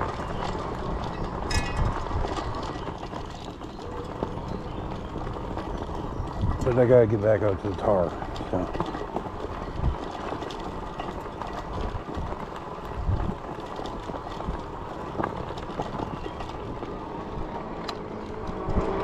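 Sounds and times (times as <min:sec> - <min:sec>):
bike tyres rolling on path: 0:00.0 - 0:19.0.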